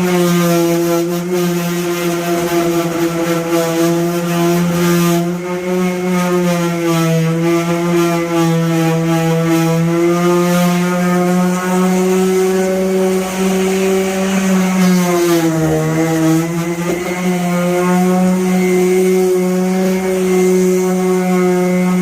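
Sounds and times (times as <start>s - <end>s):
power sander motor hum: 0.0s - 22.0s.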